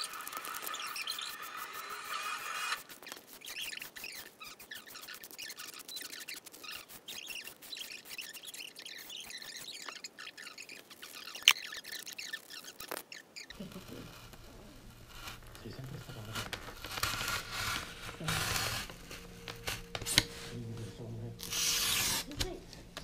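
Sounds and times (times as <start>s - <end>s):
knife scraping foam: 0.0s - 20.6s, 21.4s - 22.4s.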